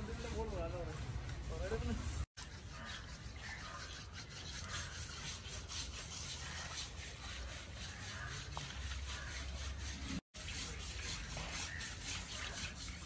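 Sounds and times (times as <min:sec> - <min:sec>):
rasping scrubbing of elephant hide: 0:00.0 - 0:13.0.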